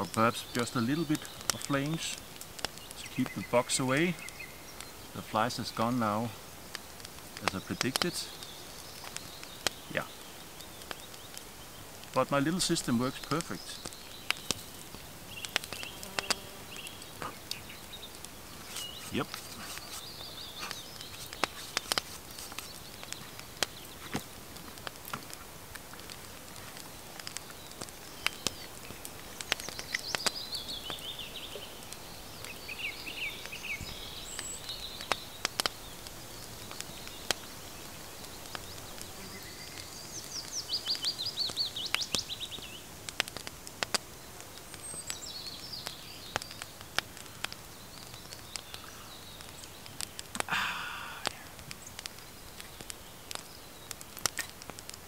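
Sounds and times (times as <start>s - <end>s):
birds calling and singing: 0.0s - 54.9s
wood fire crackling and popping: 0.0s - 55.0s.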